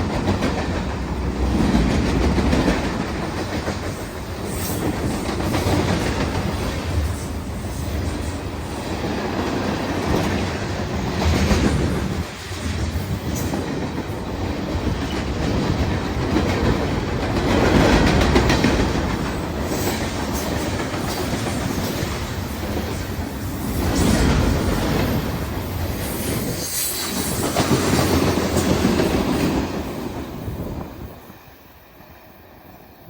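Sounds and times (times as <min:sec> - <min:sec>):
freight train wheels clacking: 0:00.0 - 0:30.8.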